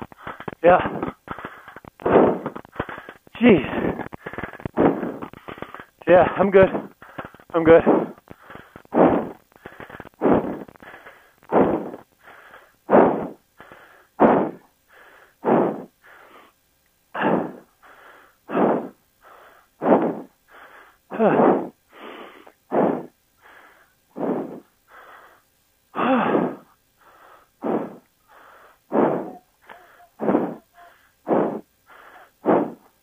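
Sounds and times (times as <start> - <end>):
person breathing hard: 0.0 - 33.0.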